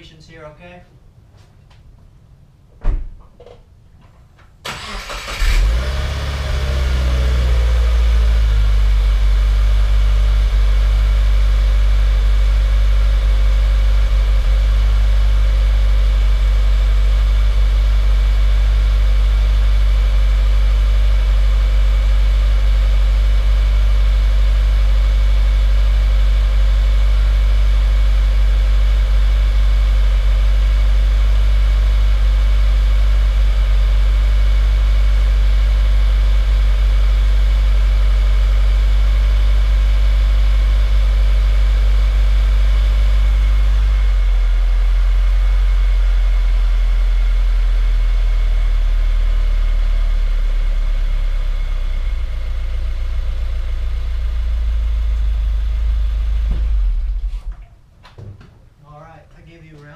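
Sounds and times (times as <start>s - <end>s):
car engine idling: 4.7s - 58.0s.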